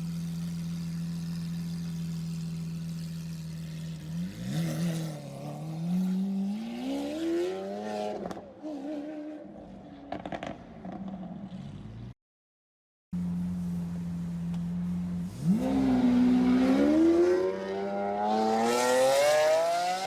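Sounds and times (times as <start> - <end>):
car engine idling and revving: 0.0 - 12.2, 13.2 - 20.0.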